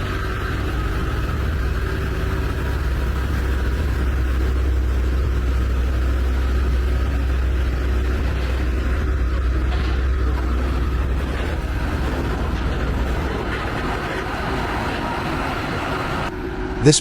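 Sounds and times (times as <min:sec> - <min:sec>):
truck diesel engines under load: 0:00.0 - 0:17.0.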